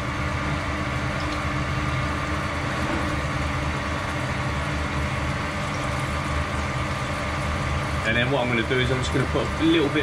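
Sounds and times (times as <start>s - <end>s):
coolant splashing: 0.0s - 10.0s.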